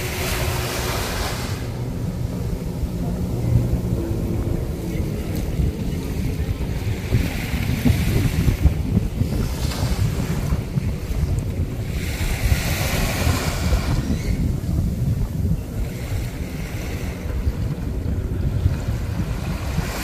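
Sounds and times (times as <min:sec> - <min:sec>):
sea waves: 0:00.0 - 0:20.0
wind buffeting microphone: 0:00.0 - 0:20.0.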